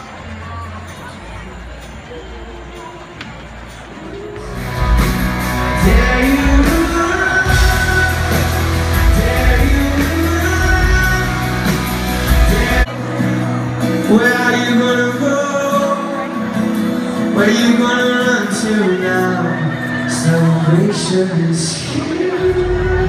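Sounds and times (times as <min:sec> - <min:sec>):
crowd: 0:00.0 - 0:23.0
live rock band playing: 0:04.4 - 0:23.0
person singing lead vocal: 0:04.4 - 0:23.0.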